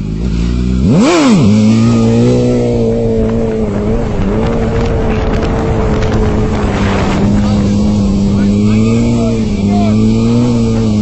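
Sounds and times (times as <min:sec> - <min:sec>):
motorcycle engine at high revs: 0:00.0 - 0:11.0.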